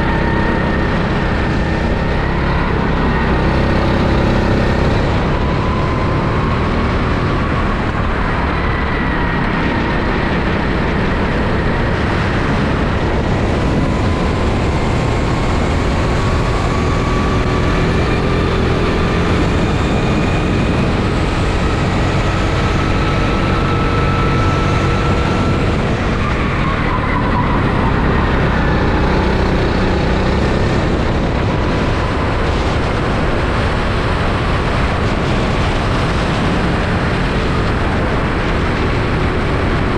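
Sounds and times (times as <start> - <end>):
go-kart engine running hard: 0.0 - 39.9
wind and tyre noise: 0.0 - 39.9.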